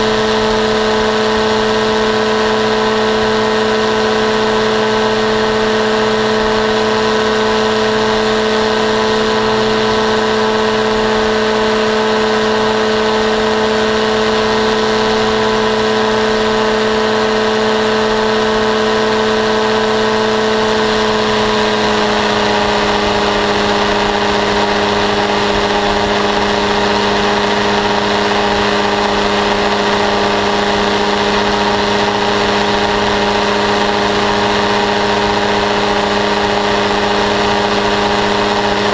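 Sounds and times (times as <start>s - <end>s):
paramotor engine droning: 0.0s - 38.9s.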